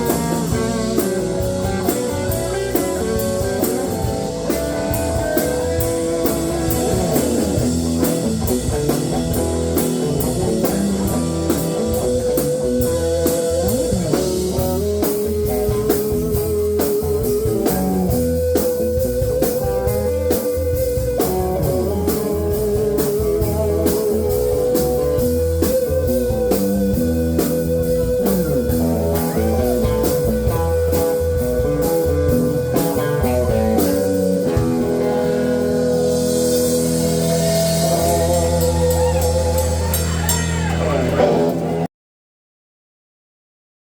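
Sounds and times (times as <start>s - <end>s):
drum beat: 0.0s - 35.2s
blues-rock band playing: 0.0s - 41.9s
lead guitar with vibrato: 0.0s - 41.9s.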